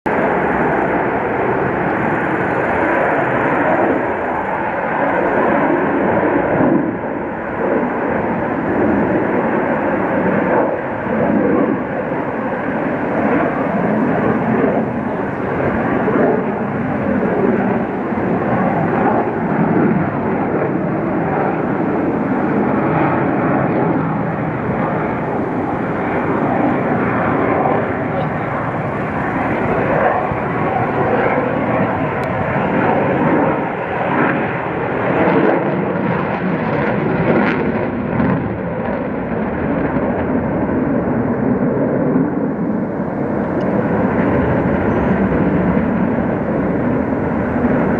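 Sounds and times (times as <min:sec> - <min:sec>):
jet engines roaring: 0:00.0 - 0:47.9.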